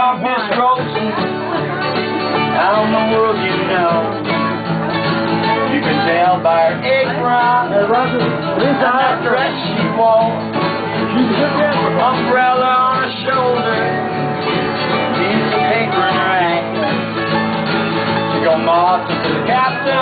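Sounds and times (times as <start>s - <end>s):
acoustic bluegrass band playing: 0.0s - 20.0s.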